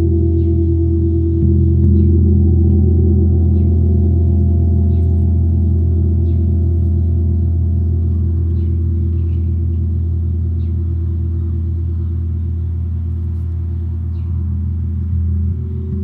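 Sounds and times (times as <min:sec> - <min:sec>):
gong ringing: 0:00.0 - 0:16.0.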